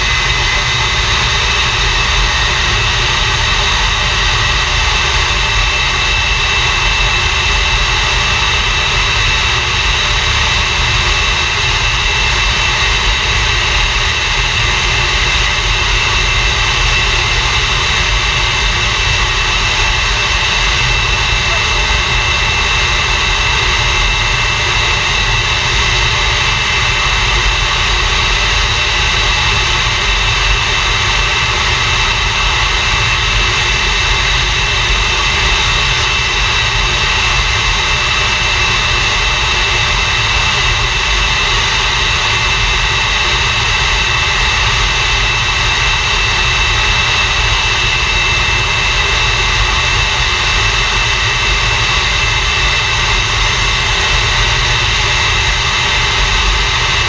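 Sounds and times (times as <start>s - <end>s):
jet engine running with high whine: 0.0s - 57.0s.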